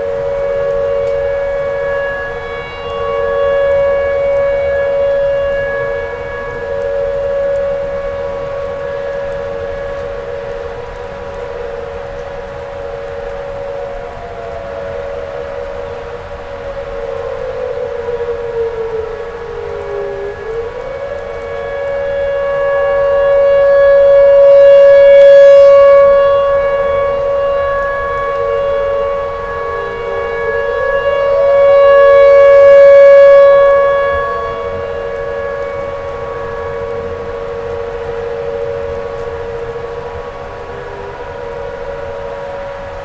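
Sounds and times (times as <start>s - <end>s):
warning siren wailing: 0.0s - 43.0s.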